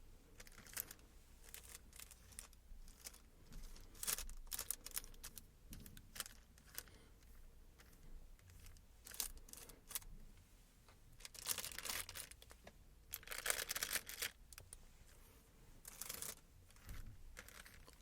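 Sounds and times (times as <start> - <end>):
hand rustling crinkly packaging: 0.4 - 7.0, 7.8 - 10.1, 11.2 - 14.8, 15.8 - 18.0.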